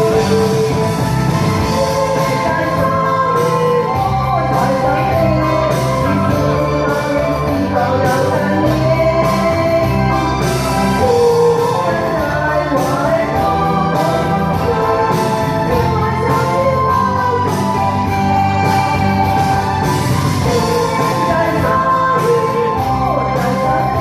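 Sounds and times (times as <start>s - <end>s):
instrumental backing with bass line: 0.0s - 24.0s
person singing pop song: 0.0s - 24.0s.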